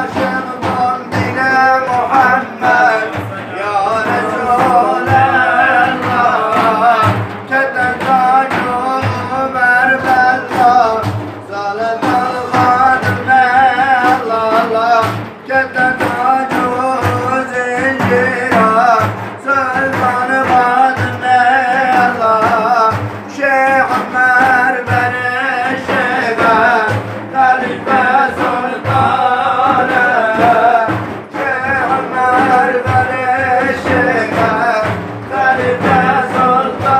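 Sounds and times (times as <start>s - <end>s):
low drum beat: 0.0s - 36.9s
man singing a hymn: 0.0s - 36.9s.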